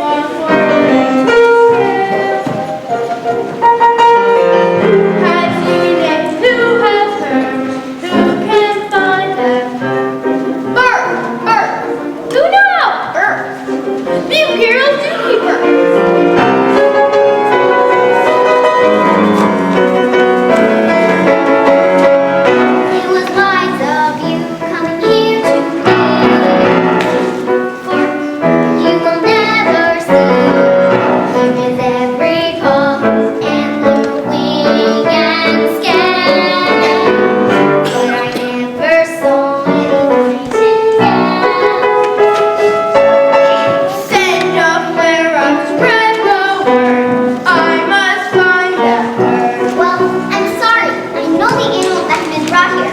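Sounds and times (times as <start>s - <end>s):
children singing: 0.0s - 12.1s, 14.9s - 52.9s
piano accompaniment: 0.0s - 52.9s.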